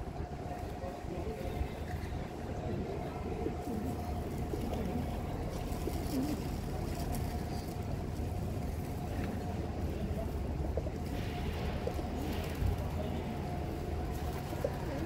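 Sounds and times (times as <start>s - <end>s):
faint steady hum: 0.0s - 15.0s
steady low rumble: 0.0s - 15.0s.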